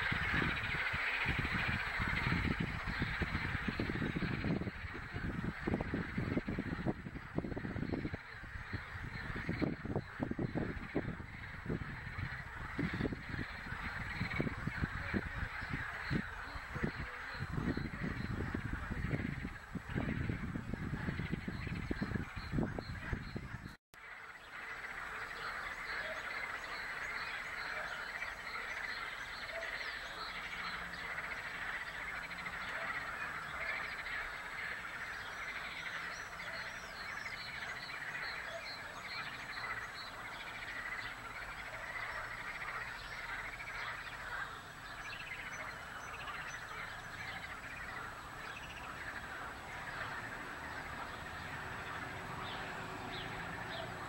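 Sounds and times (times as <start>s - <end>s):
chorus of small animals calling: 0.0s - 54.0s.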